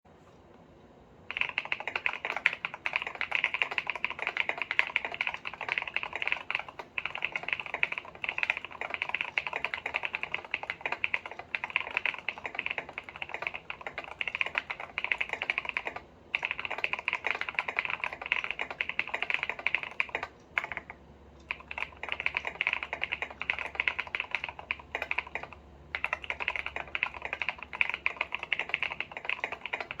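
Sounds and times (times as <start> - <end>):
fast typing on mechanical keyboard: 1.3 - 30.0.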